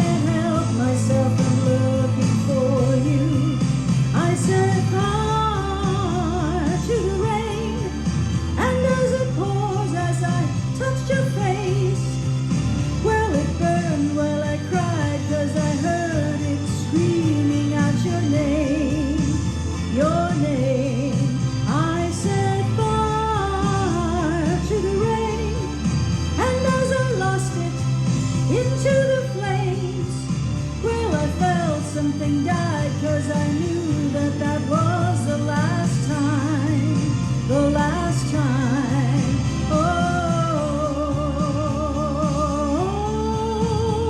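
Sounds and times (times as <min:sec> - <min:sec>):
person singing: 0:00.0 - 0:12.2, 0:13.0 - 0:44.0
pop song: 0:00.0 - 0:44.0.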